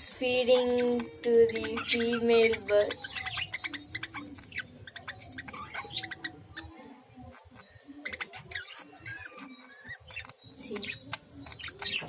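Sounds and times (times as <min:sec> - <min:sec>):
birds squeaky chirps: 0:00.0 - 0:12.0.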